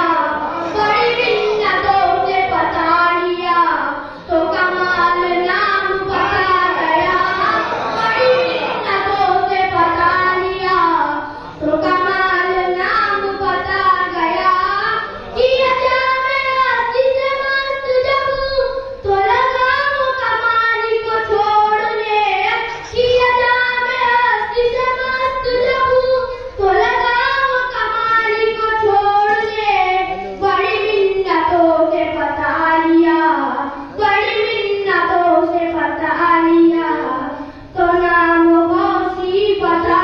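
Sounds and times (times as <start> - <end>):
boy singing into a microphone: 0.0 - 40.0.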